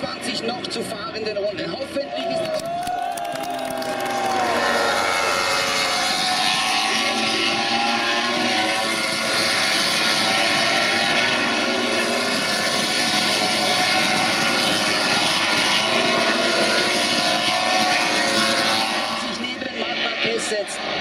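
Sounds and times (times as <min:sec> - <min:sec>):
racing motorcycles passing: 0:02.5 - 0:21.0.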